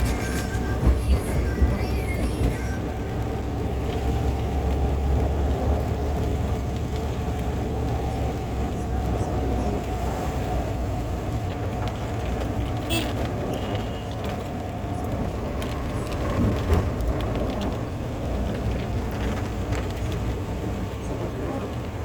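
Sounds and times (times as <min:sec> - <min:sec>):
vehicle rumble: 0:00.0 - 0:22.0.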